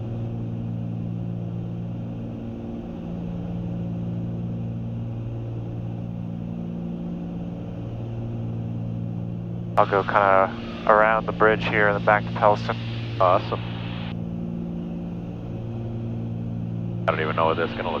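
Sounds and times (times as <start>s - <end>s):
airplane piston engines droning: 0.0s - 18.0s.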